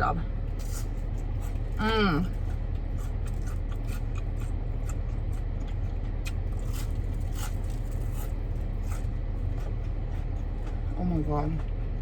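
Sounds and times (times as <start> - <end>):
low hum inside a car: 0.0 - 12.0
chewing and crunching food: 0.4 - 12.0.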